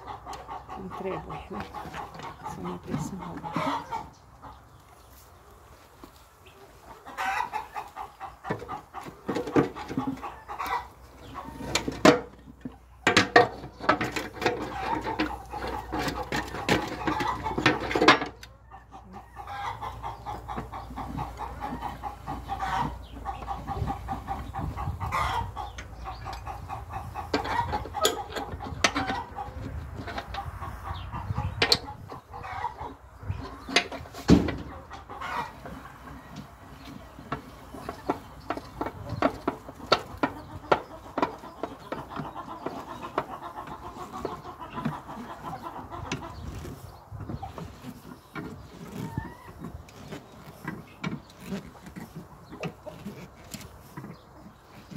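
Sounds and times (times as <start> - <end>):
hens clucking: 0.0 - 54.9.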